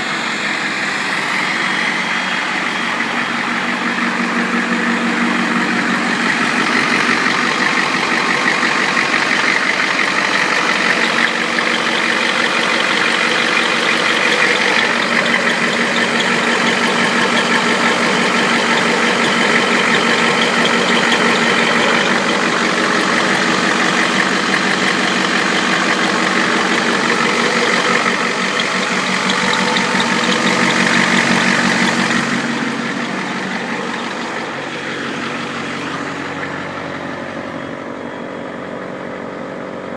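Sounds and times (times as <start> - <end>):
diesel engine running: 0.0 - 39.9
turbo whistling: 1.4 - 36.7.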